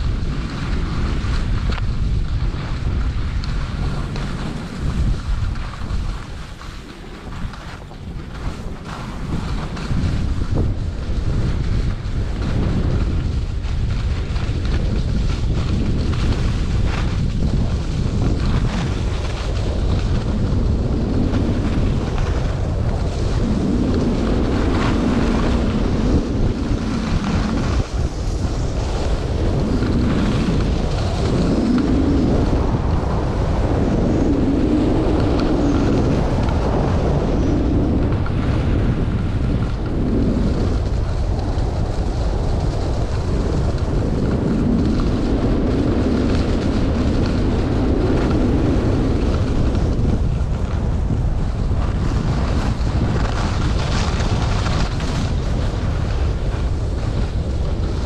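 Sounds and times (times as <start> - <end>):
skis scraping over snow: 0.0 - 58.0
wind buffeting microphone: 0.0 - 58.0.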